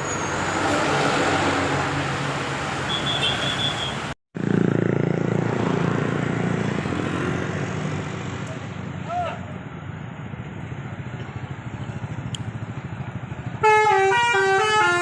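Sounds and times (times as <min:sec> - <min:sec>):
bus engine passing close: 0:00.0 - 0:15.0
road traffic: 0:00.0 - 0:15.0.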